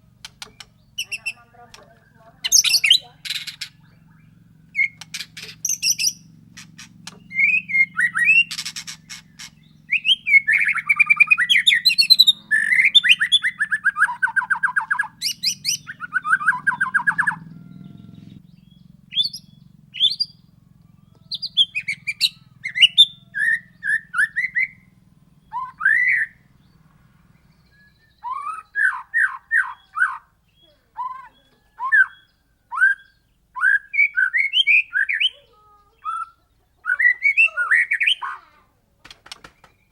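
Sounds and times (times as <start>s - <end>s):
low steady hum: 0.0s - 38.0s
songbird trilling and whistling: 0.0s - 38.5s.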